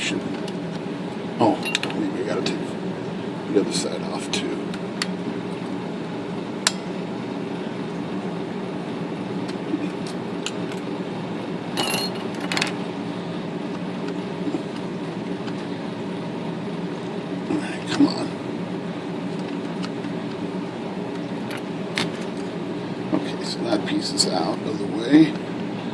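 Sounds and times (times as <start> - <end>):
steady hum: 0.0 - 25.9.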